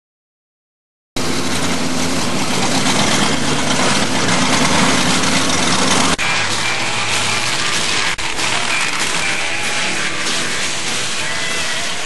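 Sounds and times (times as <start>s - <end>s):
car engine idling: 1.2s - 12.0s.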